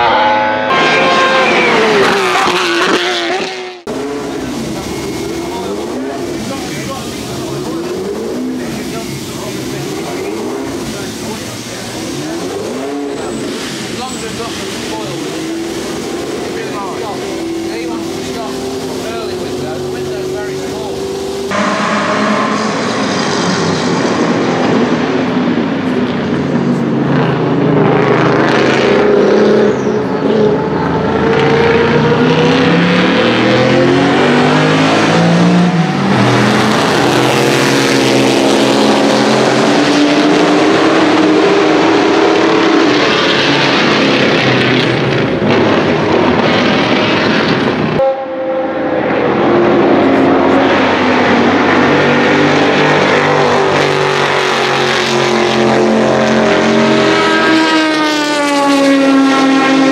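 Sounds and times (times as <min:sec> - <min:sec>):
race car engine with open exhaust: 0:00.0 - 0:59.9.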